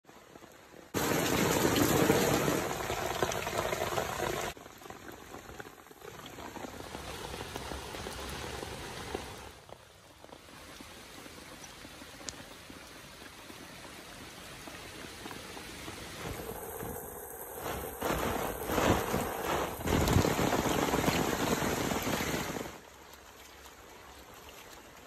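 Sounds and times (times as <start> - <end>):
rain falling on wet ground: 0.1 - 25.0.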